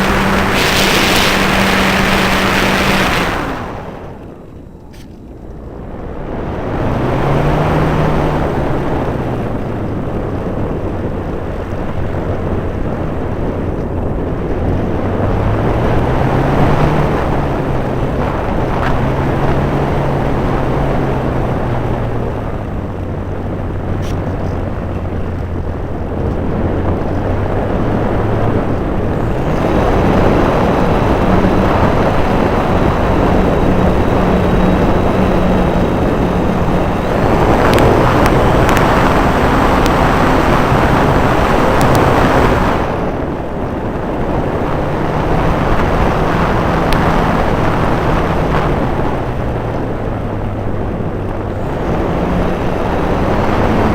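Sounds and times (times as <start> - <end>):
model airplane motor and propeller: 0.0 - 53.9.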